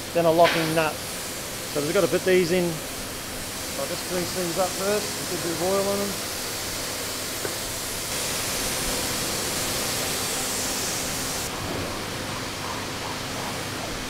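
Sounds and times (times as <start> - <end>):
workshop background hiss: 0.0 - 14.0.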